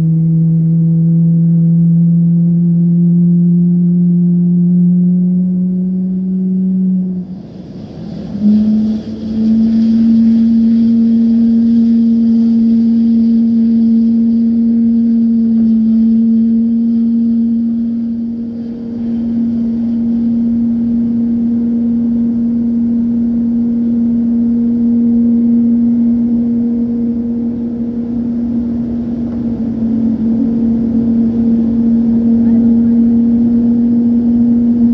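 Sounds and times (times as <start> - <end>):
high whine: 0.0 - 34.9
motor humming: 0.0 - 34.9.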